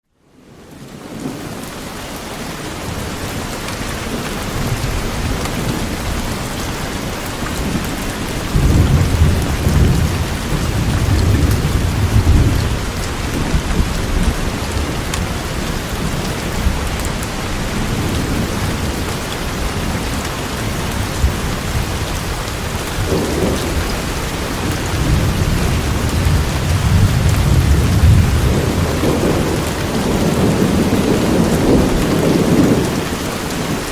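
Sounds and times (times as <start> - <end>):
rain falling through trees: 0.1 - 33.9.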